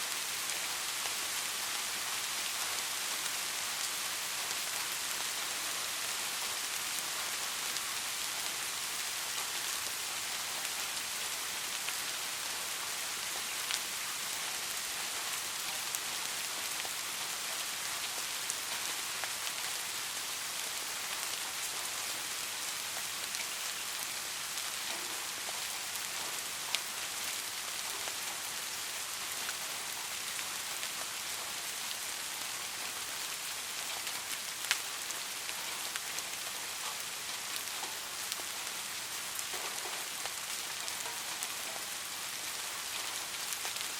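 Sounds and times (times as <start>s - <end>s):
rain falling on street: 0.0s - 43.9s.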